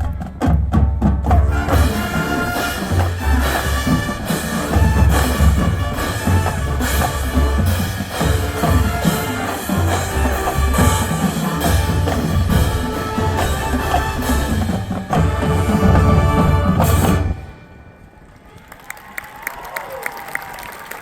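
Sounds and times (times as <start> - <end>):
drums and percussion: 0.0 - 17.7
marching band playing: 0.0 - 18.2.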